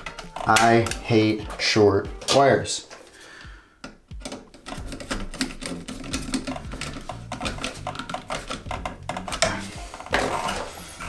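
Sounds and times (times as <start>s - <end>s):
screwdriver clicking and scraping: 0.0s - 3.0s, 3.8s - 11.0s.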